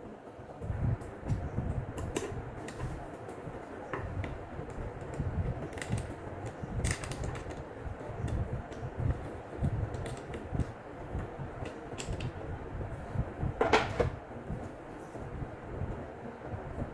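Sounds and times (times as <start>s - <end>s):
low rumble of handling noise: 0.0s - 16.9s.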